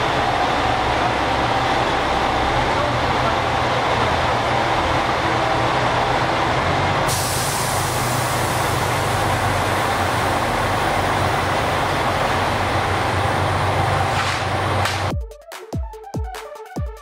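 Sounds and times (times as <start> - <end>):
diesel engines running: 0.0 - 15.1
train rumble: 0.0 - 15.1.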